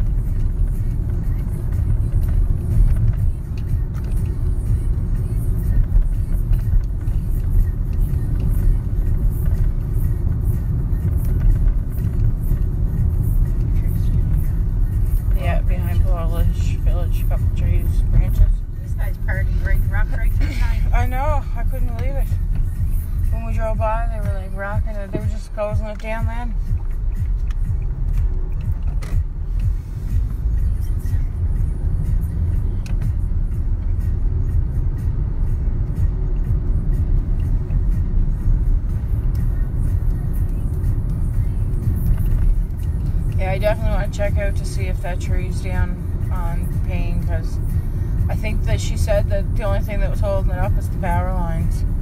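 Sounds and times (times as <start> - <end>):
car road rumble from inside cabin: 0.0 - 52.0.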